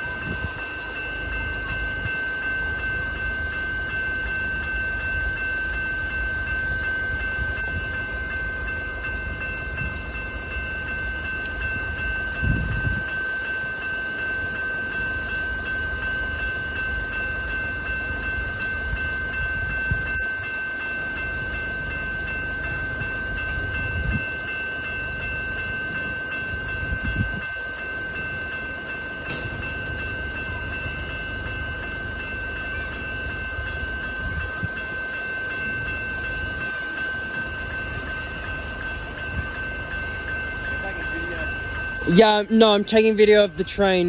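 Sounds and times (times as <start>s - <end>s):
level crossing bell ringing: 0.0s - 44.0s
train rumbling: 0.0s - 44.0s.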